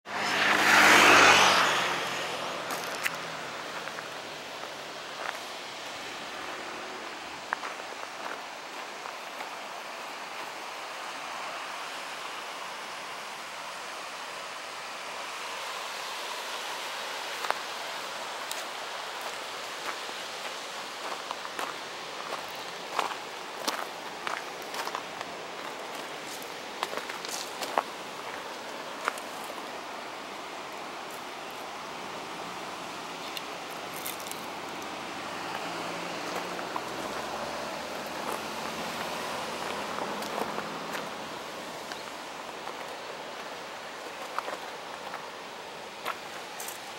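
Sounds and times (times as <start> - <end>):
waterfall and river rapids rushing: 0.1 - 46.9.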